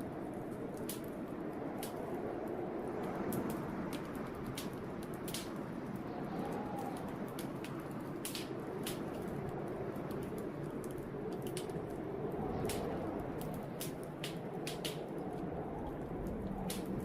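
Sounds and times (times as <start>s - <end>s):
blizzard wind whistling: 0.0s - 17.0s
wood fire crackling and popping: 0.0s - 17.0s.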